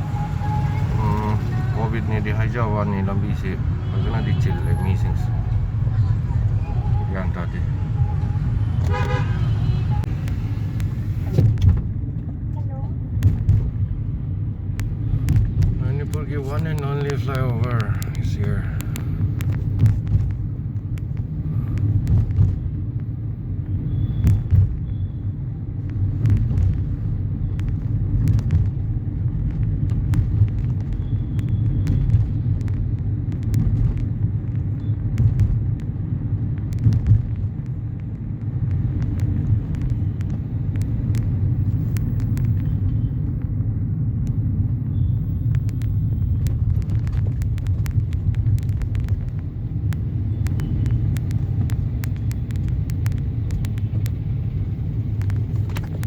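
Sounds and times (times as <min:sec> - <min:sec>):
car rumbling on road from inside: 0:00.0 - 0:56.0.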